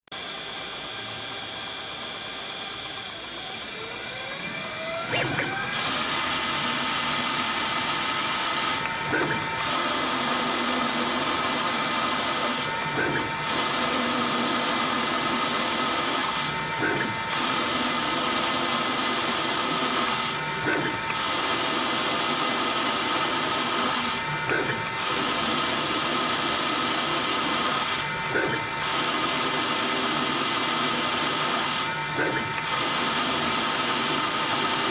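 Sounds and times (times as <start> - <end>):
lathe whining: 0.2 - 34.9.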